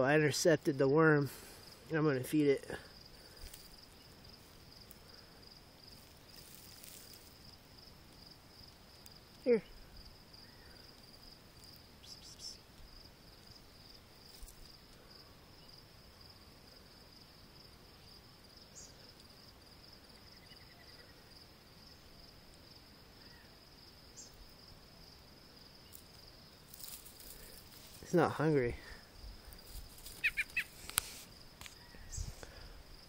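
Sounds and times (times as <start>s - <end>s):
insect trill: 0.0s - 33.0s.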